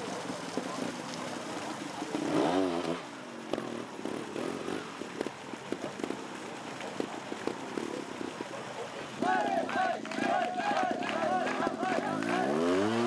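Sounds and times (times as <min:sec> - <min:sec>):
motorcycle engine revving: 0:01.8 - 0:13.0.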